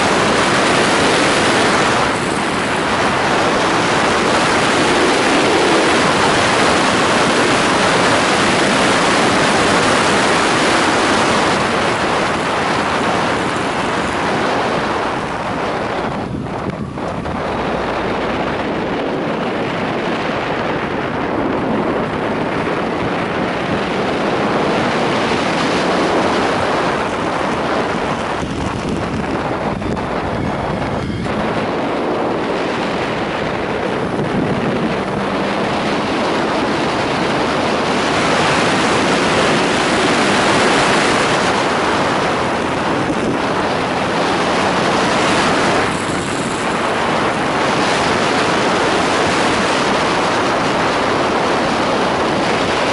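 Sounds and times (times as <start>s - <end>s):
faint motorcycle engine: 0.0s - 52.9s
wind roaring over microphone: 0.0s - 52.9s.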